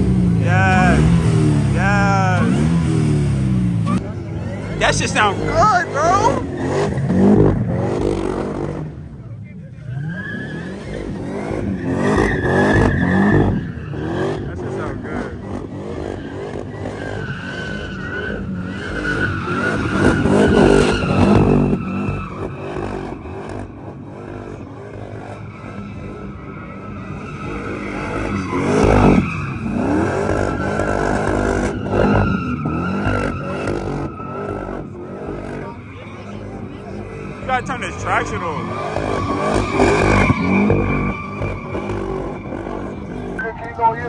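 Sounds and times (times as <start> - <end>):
car engine revving: 0.0 - 44.0
tires squealing: 0.0 - 44.0.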